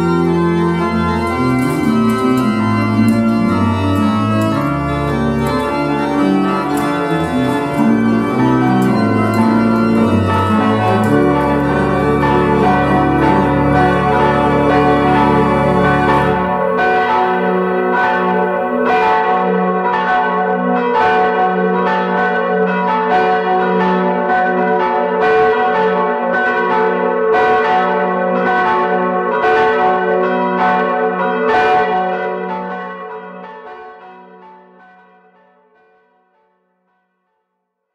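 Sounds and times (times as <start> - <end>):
church bells ringing: 0.0 - 35.4.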